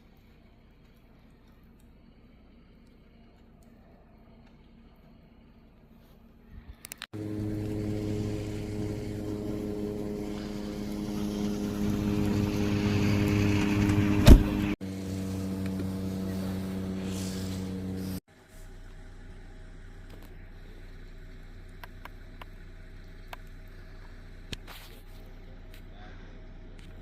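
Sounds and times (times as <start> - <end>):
vehicle engine running: 0.0 - 6.5, 7.1 - 27.0.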